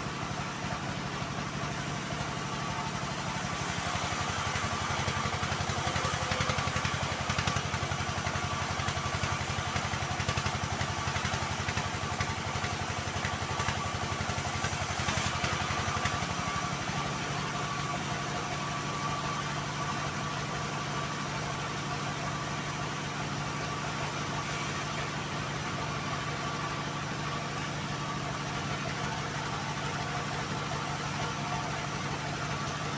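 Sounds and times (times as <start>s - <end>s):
sawmill engine running: 0.0s - 32.9s.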